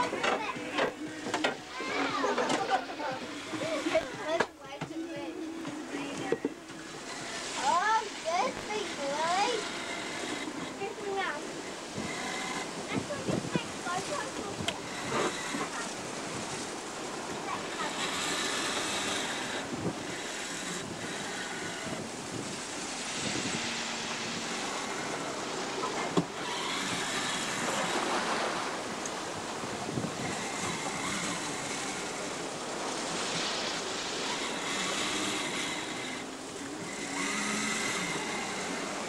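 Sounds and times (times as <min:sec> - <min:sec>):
sea water rushing along hull: 0:00.0 - 0:39.0
wind buffeting microphone: 0:00.0 - 0:39.0.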